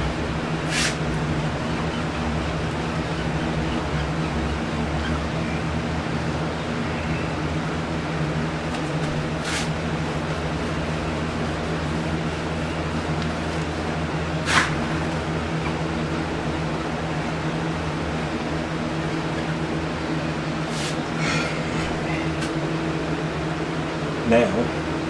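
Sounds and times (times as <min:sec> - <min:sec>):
electric fan humming: 0:00.0 - 0:25.0.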